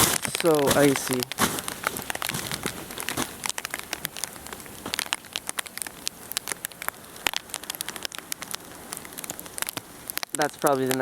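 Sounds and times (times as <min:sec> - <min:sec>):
ice crackling and ticking: 0:00.0 - 0:11.0.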